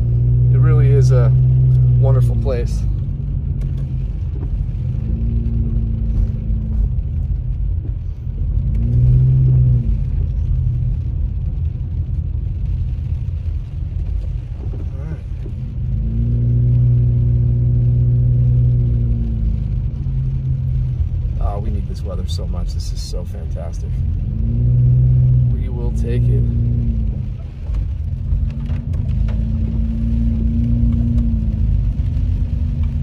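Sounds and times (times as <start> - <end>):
car engine hum: 0.0 - 33.0
road rumble on wet street: 0.0 - 33.0.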